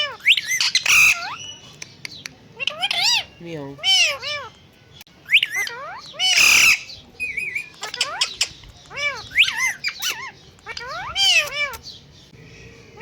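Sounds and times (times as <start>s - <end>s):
parrot squawking: 0.0s - 1.7s, 2.5s - 4.6s, 5.2s - 12.0s.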